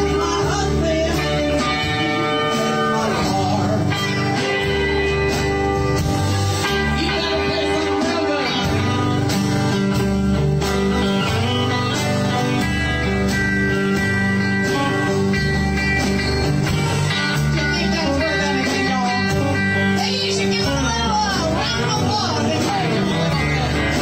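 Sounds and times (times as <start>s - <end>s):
bass: 0.0s - 24.0s
drums: 0.0s - 24.0s
steel guitar sliding notes: 0.0s - 24.0s.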